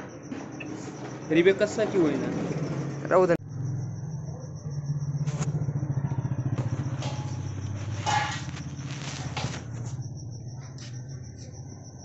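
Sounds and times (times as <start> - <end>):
scooter engine idling: 0.6 - 11.8.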